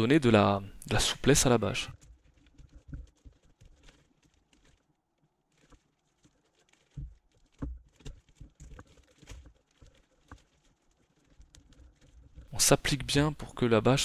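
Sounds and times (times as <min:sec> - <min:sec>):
plastic film crinkling: 0:01.4 - 0:12.8.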